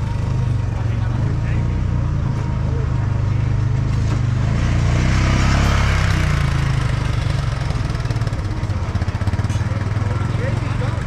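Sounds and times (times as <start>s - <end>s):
kart engines idling: 0.0s - 11.0s.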